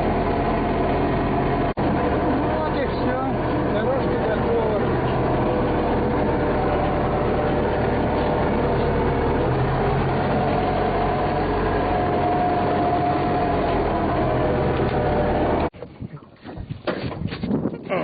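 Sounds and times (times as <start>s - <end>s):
earth-moving machine engine running: 0.0s - 15.7s.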